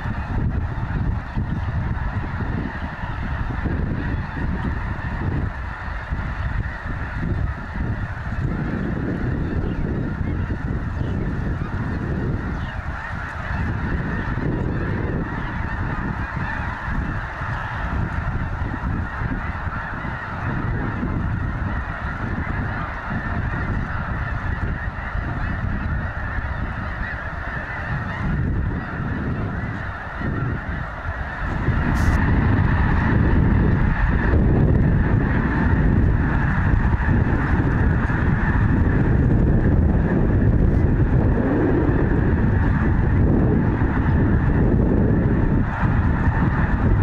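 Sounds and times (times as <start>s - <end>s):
geese honking: 0.0s - 47.0s.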